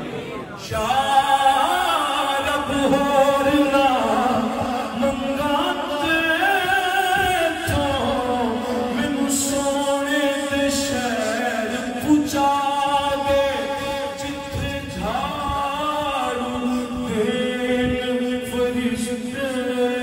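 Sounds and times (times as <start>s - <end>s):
man singing into a microphone: 0.5s - 20.0s.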